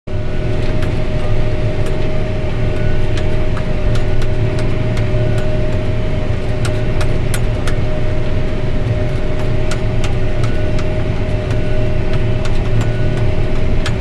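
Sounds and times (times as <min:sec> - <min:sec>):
steady whine: 0:00.1 - 0:14.0
tractor engine running under load: 0:00.1 - 0:14.0
sharp clicks and ticks: 0:00.6 - 0:14.0.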